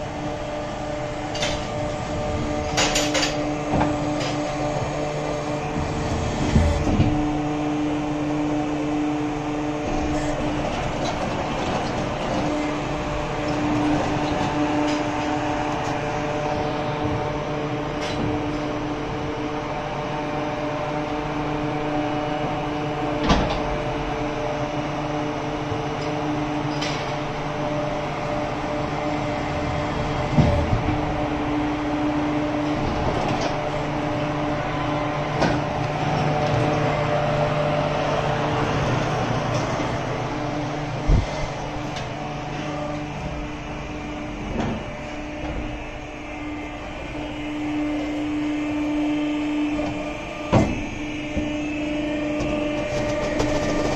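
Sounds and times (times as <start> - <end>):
machinery humming: 0.0 - 53.9.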